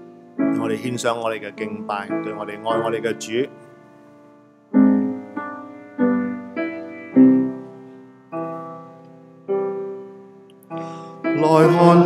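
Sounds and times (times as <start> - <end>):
slow piano notes and chords: 0.0 - 12.0.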